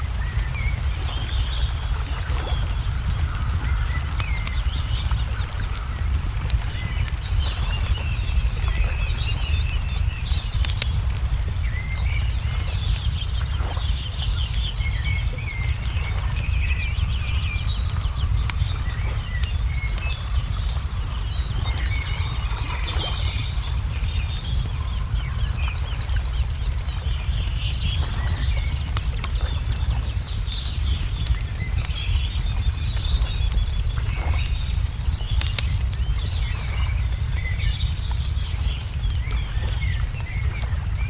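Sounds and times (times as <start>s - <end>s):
low rumble: 0.0s - 41.0s
songbirds chirping: 0.0s - 41.0s
wood fire crackling and popping: 0.0s - 41.0s.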